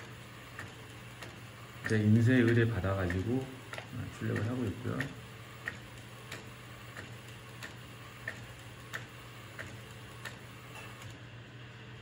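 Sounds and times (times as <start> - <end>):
printer clicks: 0.0 - 11.2.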